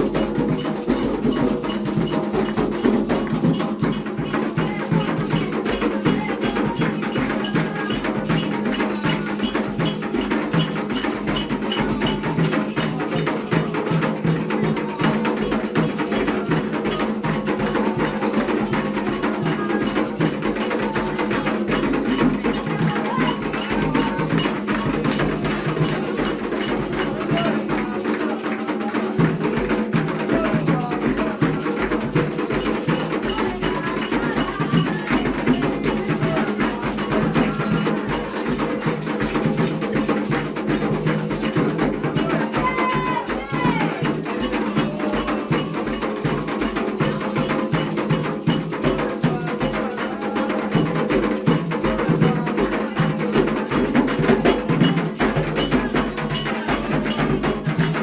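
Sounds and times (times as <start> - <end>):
hand drums: 0.0 - 58.0
sharp clacking percussion: 0.0 - 58.0.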